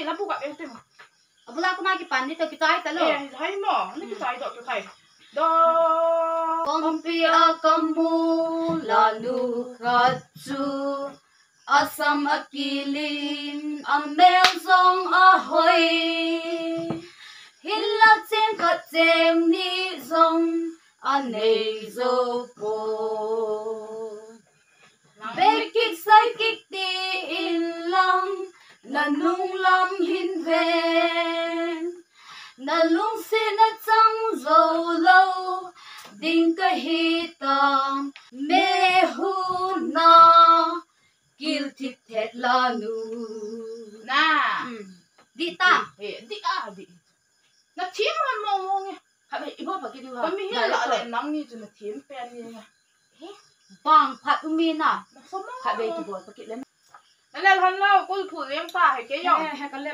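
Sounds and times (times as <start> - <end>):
women singing unaccompanied: 1.5 - 24.5, 25.2 - 46.9, 47.8 - 52.7, 53.8 - 56.7, 57.4 - 59.9.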